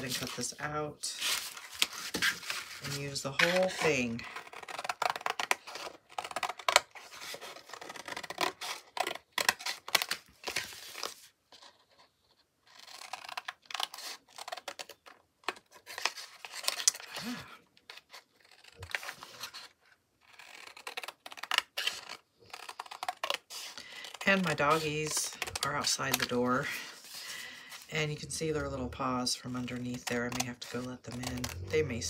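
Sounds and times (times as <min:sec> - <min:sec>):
paperboard box crackling and tearing: 0:00.0 - 0:32.0.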